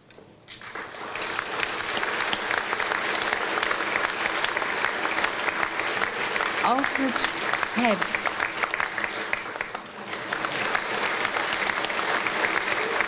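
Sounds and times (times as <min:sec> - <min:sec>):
audience applauding: 0:00.6 - 0:13.0.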